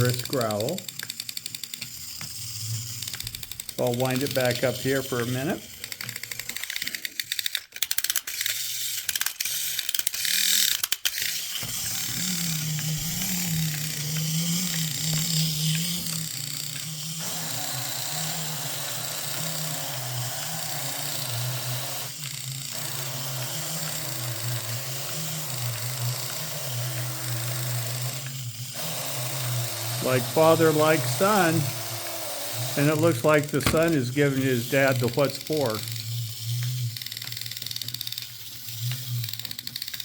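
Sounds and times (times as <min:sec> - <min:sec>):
clockwork motor growling: 0:00.0 - 0:40.0
wind-up key ratcheting: 0:00.0 - 0:40.0.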